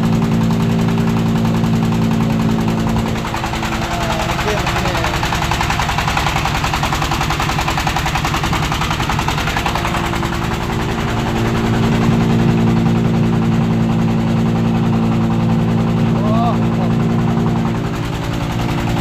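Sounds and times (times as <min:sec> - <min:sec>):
diesel engine chugging: 0:00.0 - 0:19.0
steady hum: 0:00.0 - 0:19.0.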